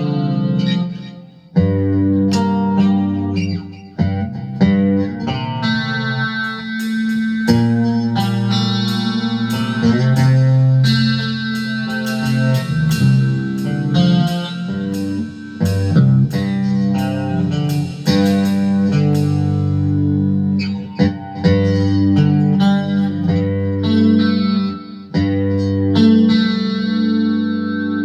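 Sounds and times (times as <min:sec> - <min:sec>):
guitar riff: 0:00.0 - 0:28.0.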